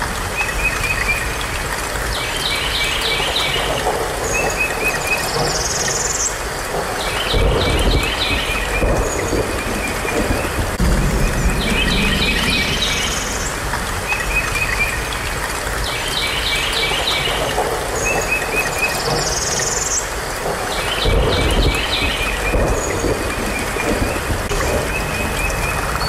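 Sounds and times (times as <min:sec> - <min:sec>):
steady rain-like hiss: 0:00.0 - 0:26.0
birds chirping and trilling: 0:02.1 - 0:15.2, 0:15.8 - 0:26.0.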